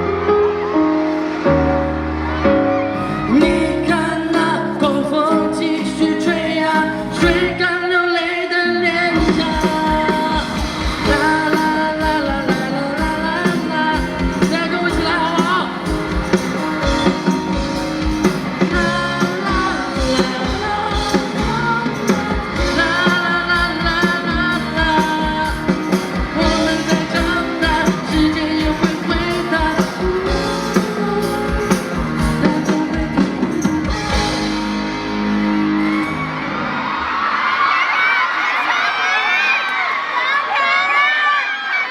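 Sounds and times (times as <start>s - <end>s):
person singing: 0.0s - 35.7s
live pop-rock band: 0.0s - 40.2s
crowd cheering and screaming: 0.0s - 41.9s.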